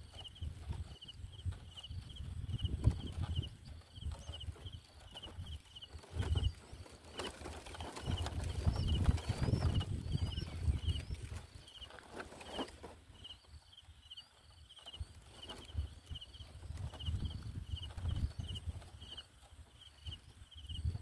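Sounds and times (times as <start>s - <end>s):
rumbling and rustling: 0.0s - 13.5s, 14.8s - 21.0s.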